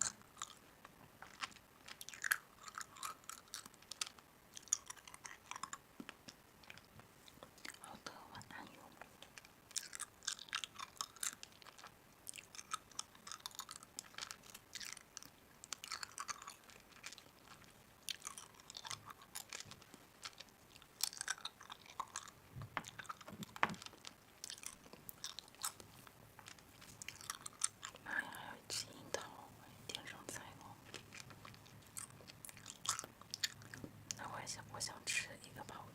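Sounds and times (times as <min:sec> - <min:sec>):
person chewing crunchy food: 0:00.0 - 0:07.8, 0:08.7 - 0:34.2.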